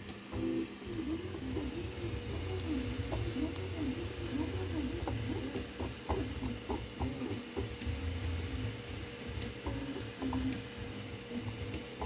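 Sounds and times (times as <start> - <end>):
steady fan tone: 0.0 - 12.0
stepper motors whining: 0.0 - 12.0.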